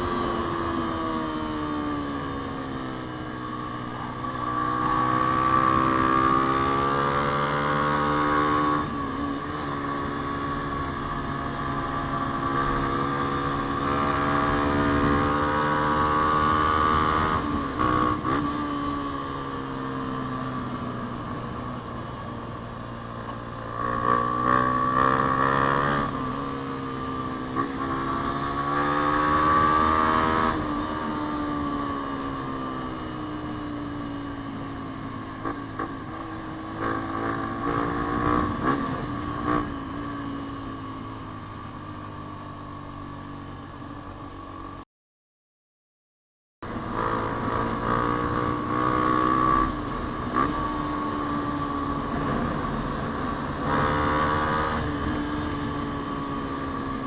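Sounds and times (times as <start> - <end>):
motorcycle engine revving: 0.0 - 43.5, 46.6 - 57.0.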